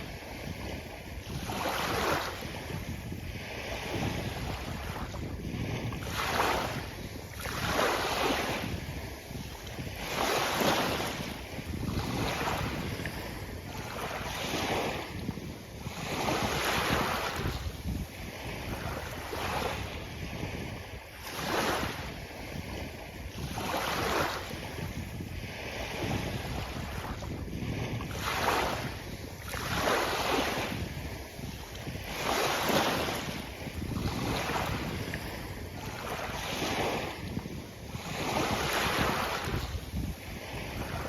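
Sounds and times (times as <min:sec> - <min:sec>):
sea waves breaking on beach: 0:00.0 - 0:41.0.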